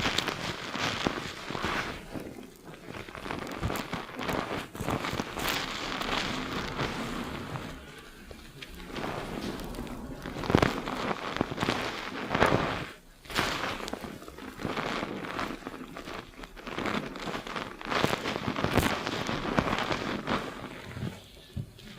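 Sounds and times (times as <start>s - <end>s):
fingers scrubbing lathered scalp: 0.0s - 21.9s.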